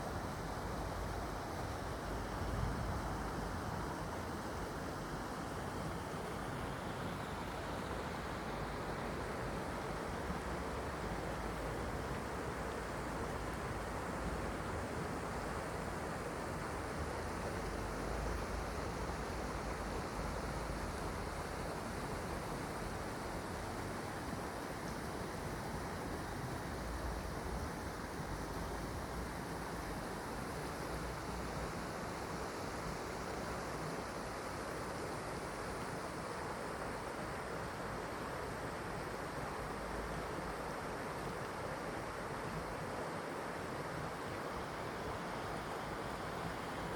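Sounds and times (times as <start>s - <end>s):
stream water flowing over rocks: 0.0s - 46.9s.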